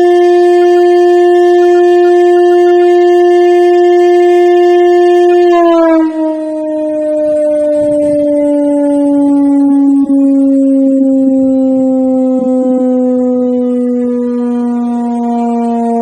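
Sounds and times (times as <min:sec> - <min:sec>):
motor siren wailing: 0:00.0 - 0:16.0.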